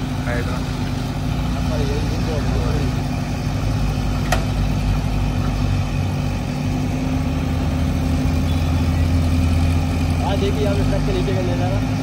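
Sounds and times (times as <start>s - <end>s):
heavy diesel engines under load: 0.0s - 12.0s.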